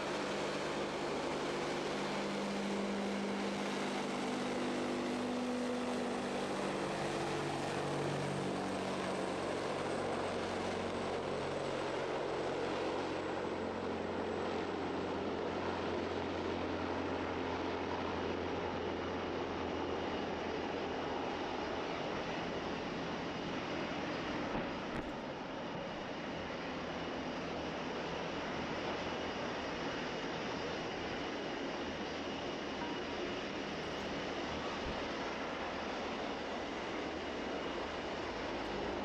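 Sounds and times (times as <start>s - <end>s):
propeller aircraft engines droning: 0.0s - 39.0s.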